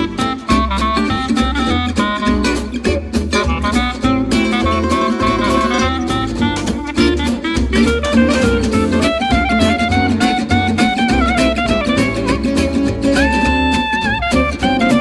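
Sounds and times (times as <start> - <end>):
upbeat instrumental music with guitar: 0.0 - 15.0.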